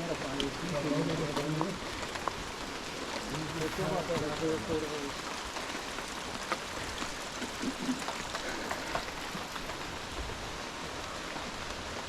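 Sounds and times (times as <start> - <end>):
rain falling through foliage: 0.0 - 12.0.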